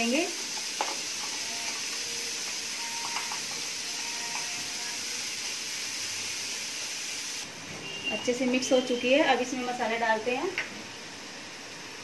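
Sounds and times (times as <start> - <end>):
frying pan sizzling: 0.0 - 12.0.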